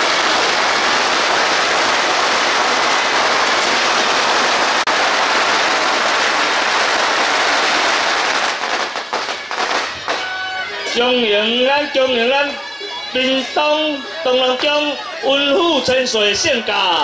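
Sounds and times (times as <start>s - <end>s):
firecrackers crackling: 0.0s - 17.0s.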